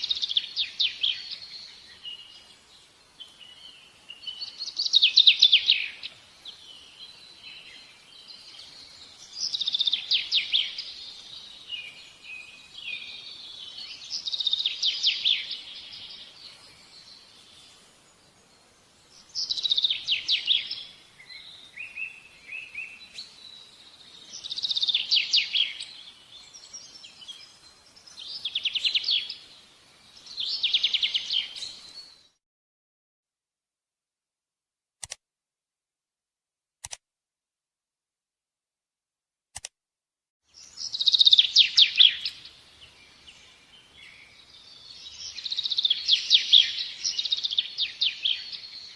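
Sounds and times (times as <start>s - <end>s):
bird singing trilled phrases: 0.0s - 32.4s, 40.6s - 48.9s
faint bird chirps: 0.0s - 32.4s, 40.5s - 48.9s.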